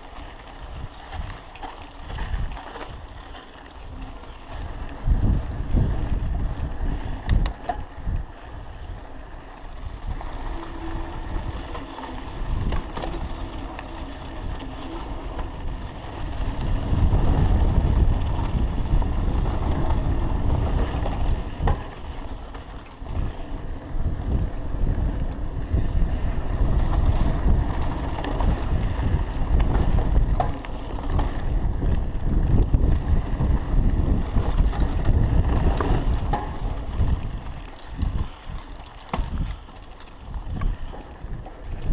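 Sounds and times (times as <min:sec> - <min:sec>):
bike rattling: 0:00.0 - 0:41.9
wind buffeting microphone: 0:00.0 - 0:41.9.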